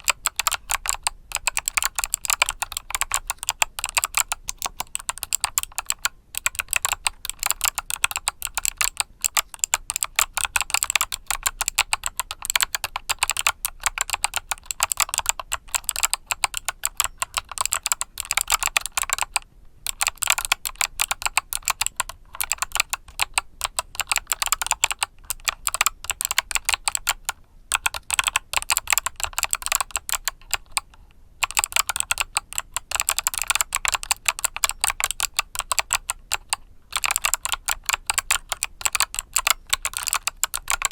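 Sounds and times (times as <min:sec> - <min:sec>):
typing on mechanical keyboard: 0:00.0 - 0:40.9.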